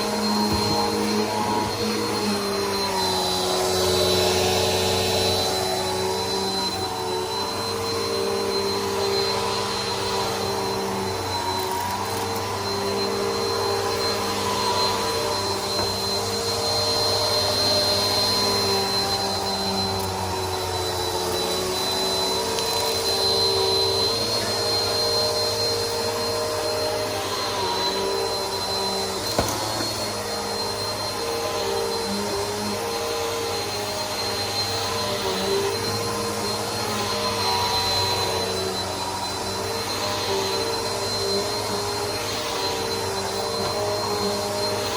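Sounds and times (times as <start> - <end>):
vacuum cleaner motor whine: 0.0 - 44.9.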